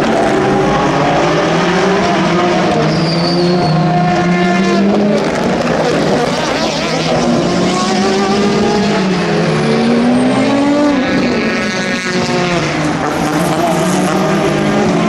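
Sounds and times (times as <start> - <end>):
racing car engines running hard: 0.0 - 15.0.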